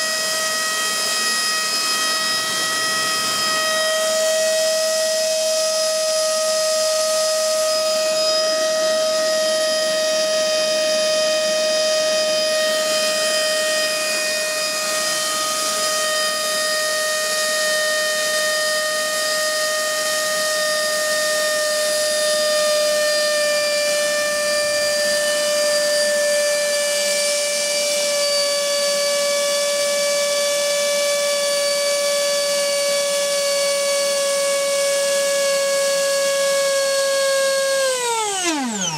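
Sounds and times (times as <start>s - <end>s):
electric motor and propeller whine: 0.0s - 38.9s.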